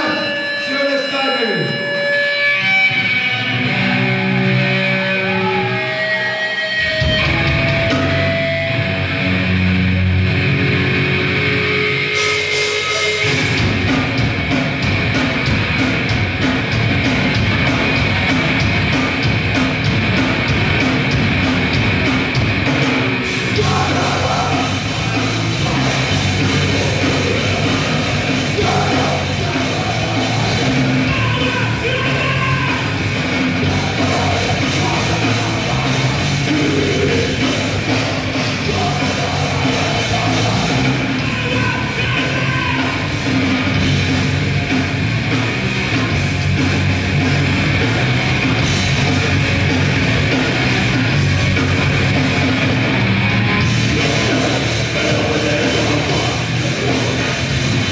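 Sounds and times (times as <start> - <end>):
bass guitar: 0.0 - 57.9
grindcore band playing live: 0.0 - 57.9
guitar riff: 0.0 - 57.9
drums and cymbals crashing: 11.2 - 57.9.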